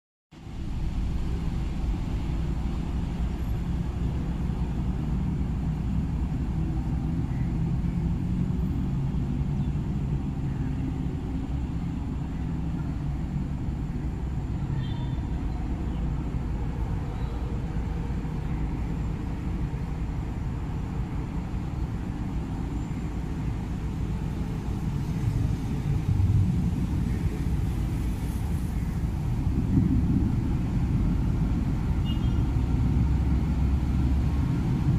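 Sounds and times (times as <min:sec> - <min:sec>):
locomotive diesel engine rumbling: 0:00.4 - 0:34.9.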